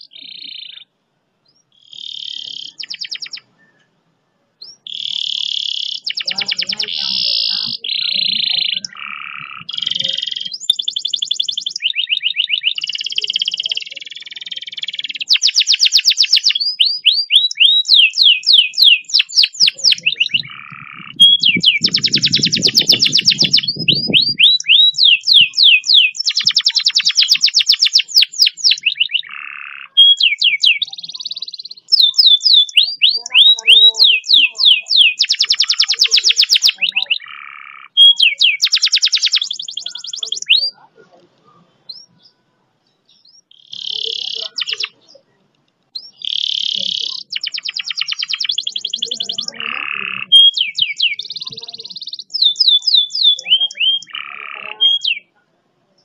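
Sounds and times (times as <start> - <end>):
canary singing: 0.0 - 4.0, 4.6 - 55.4.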